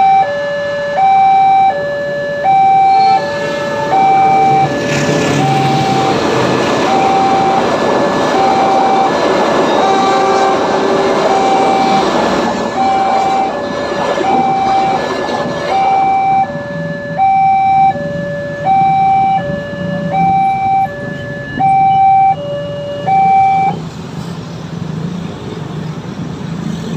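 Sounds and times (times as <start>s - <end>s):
level crossing two-tone alarm: 0.0s - 23.8s
passing train rumble: 2.4s - 26.9s.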